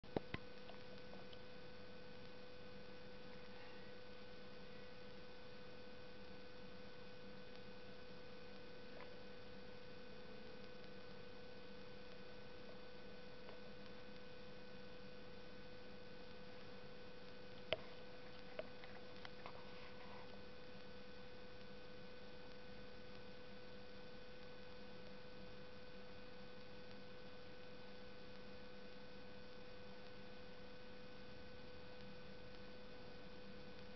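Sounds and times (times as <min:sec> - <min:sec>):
faint electrical hum: 0:00.0 - 0:33.9.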